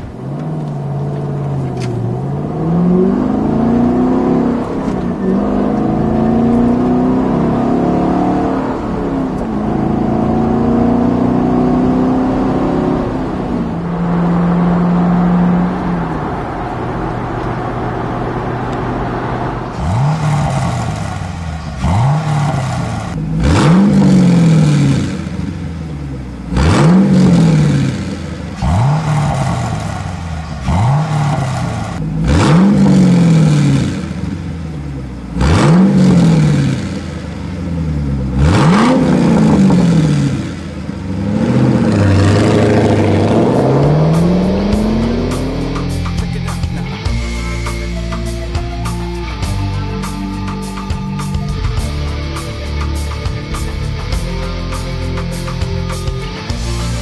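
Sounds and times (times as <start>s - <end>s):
car engine driving: 0.0s - 57.0s
car engine revving: 0.0s - 57.0s.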